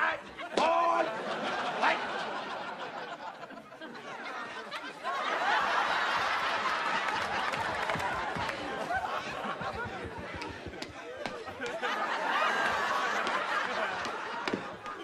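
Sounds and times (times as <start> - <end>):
studio audience laughing: 0.8 - 15.0.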